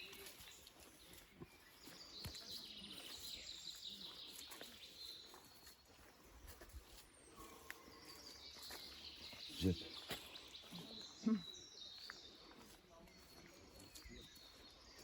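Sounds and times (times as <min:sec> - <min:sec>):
faint birdsong trill: 0:00.0 - 0:15.0
quiet woodland ambience: 0:00.0 - 0:15.0.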